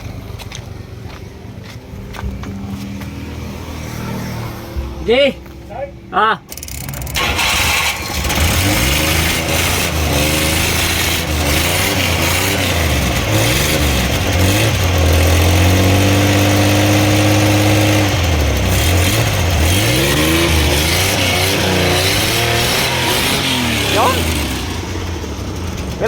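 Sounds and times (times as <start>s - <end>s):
engine revving: 2.2s - 26.0s.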